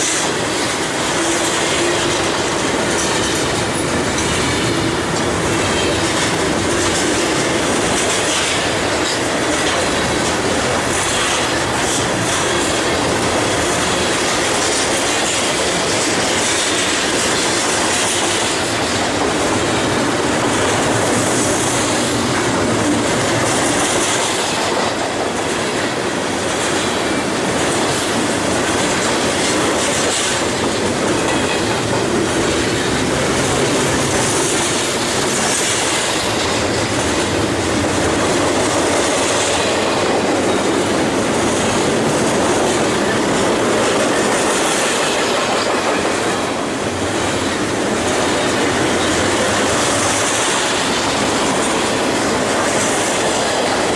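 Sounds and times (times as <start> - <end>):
freight train wheels on rails: 0.0 - 53.9
wheels clattering over rails: 0.0 - 53.9.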